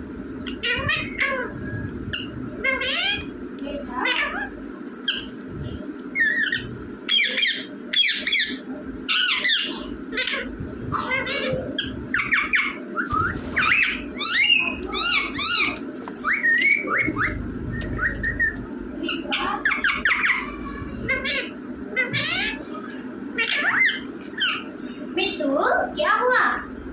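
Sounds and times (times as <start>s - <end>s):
low background hum: 0.0s - 26.9s
parakeet calling: 0.4s - 25.1s.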